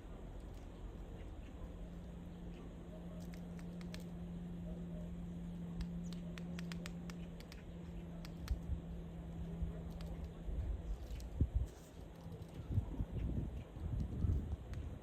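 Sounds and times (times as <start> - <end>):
low hum: 0.0 - 15.0
birds pecking at food: 0.1 - 12.8.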